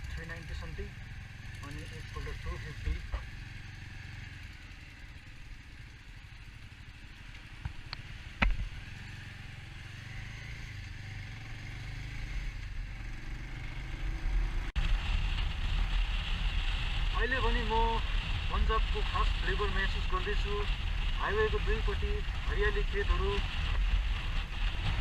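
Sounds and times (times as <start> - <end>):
motorcycle engine and road noise: 0.0 - 25.0.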